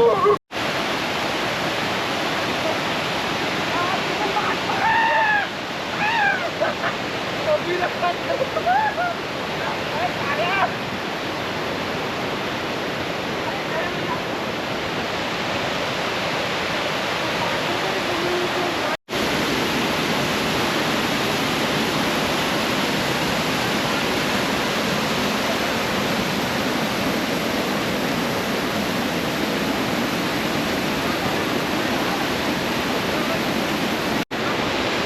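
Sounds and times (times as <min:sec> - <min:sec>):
running water rushing: 0:00.0 - 0:35.0.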